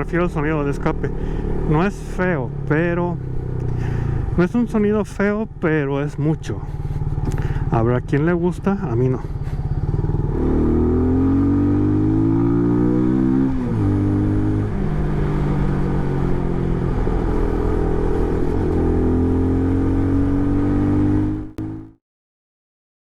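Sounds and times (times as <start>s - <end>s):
motorcycle engine revving: 0.0s - 4.4s, 5.2s - 22.0s.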